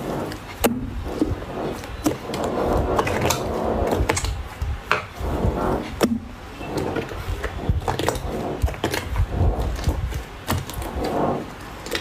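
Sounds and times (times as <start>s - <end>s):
slime squishing: 0.0s - 12.0s.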